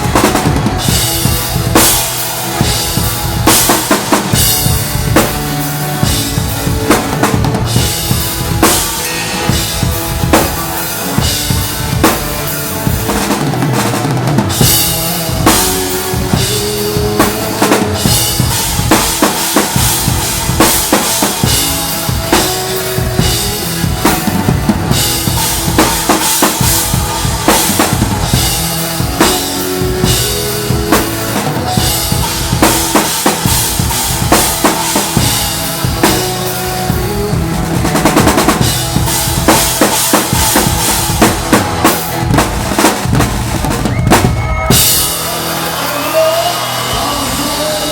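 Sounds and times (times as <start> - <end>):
band playing: 0.0 - 47.9
drum kit groove: 0.0 - 47.9.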